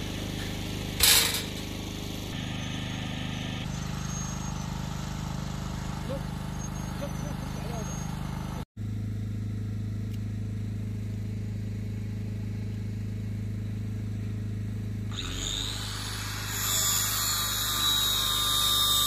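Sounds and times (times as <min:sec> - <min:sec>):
low machine hum: 0:00.0 - 0:16.9.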